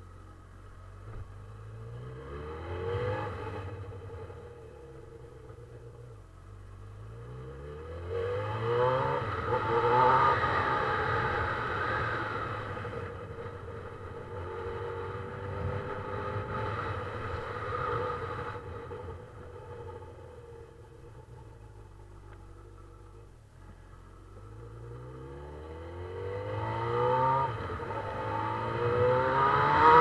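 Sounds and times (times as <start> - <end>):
motorcycle engine accelerating: 0.6 - 30.0.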